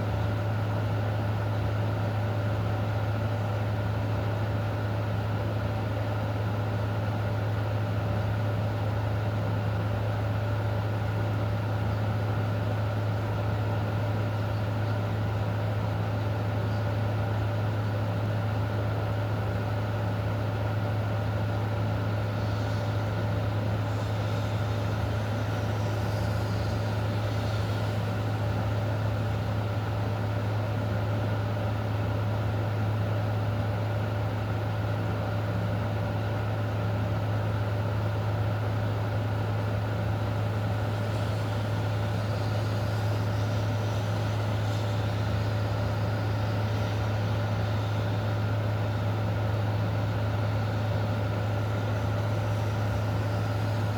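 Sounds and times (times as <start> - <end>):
constant low hum: 0.0 - 53.9.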